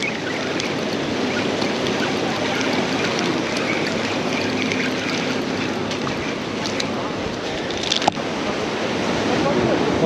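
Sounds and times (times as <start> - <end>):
seawater churning into whitewater: 0.0 - 10.0.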